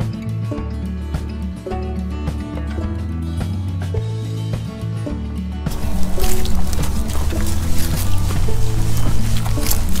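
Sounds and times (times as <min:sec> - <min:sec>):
background music with bass and beat: 0:00.0 - 0:10.0.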